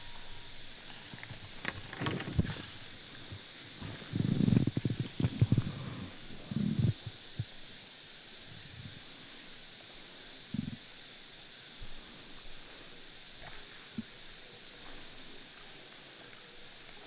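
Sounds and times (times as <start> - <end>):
high outdoor hiss: 0.0 - 17.0.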